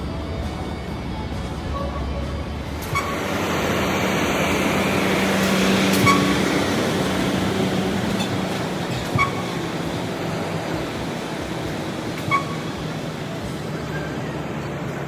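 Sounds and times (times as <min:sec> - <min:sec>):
vehicle running noise: 0:00.0 - 0:15.0.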